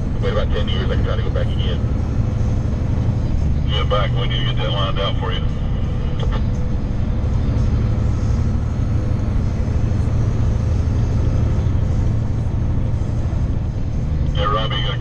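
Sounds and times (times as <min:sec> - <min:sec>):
engine and road rumble inside vehicle: 0:00.0 - 0:15.0.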